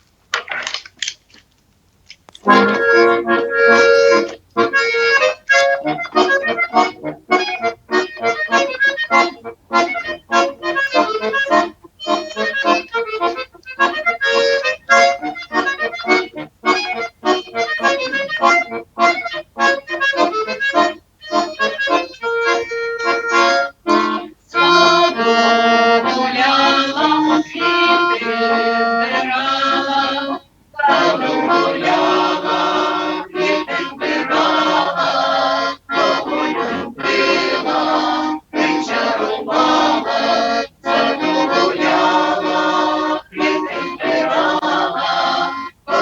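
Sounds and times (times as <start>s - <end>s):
accordion playing folk chords: 2.4s - 46.0s.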